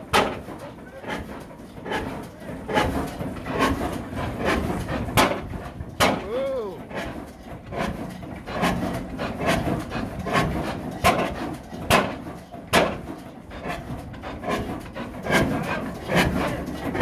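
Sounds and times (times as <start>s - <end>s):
stationary engine running slowly: 0.0s - 17.0s.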